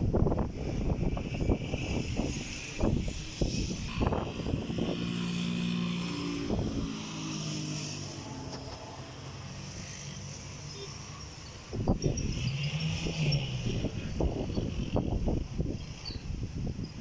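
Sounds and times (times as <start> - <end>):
engine droning past: 0.0 - 17.0
wind buffeting microphone: 0.0 - 17.0.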